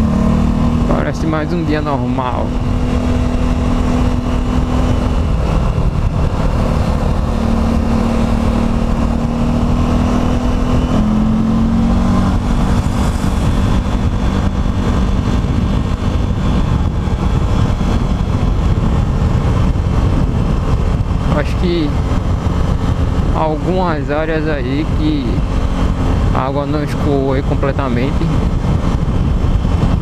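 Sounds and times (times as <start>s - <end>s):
steady low rumble: 0.0s - 30.0s
vehicle engine running: 0.0s - 30.0s.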